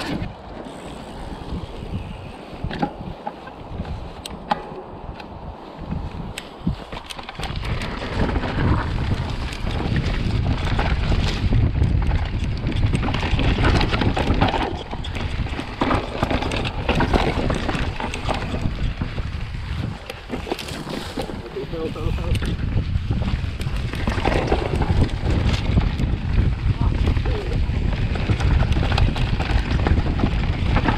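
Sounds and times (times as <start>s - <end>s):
mountain bike rattling: 0.0s - 30.9s
wind rushing over microphone: 0.0s - 30.9s.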